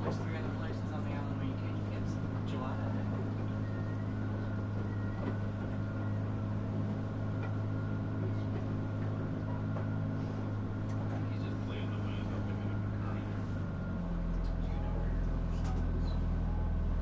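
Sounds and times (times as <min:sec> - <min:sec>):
ferry engine humming: 0:00.0 - 0:17.0.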